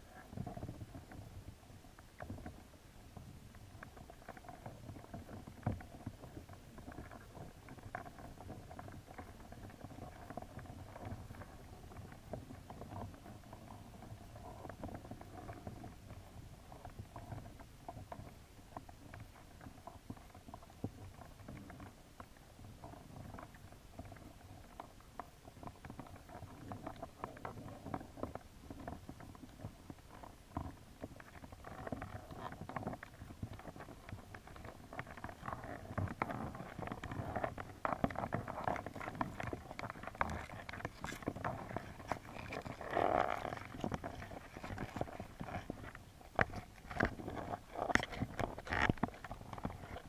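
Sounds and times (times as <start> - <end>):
crayfish clicking and scraping underwater: 0.0 - 50.0.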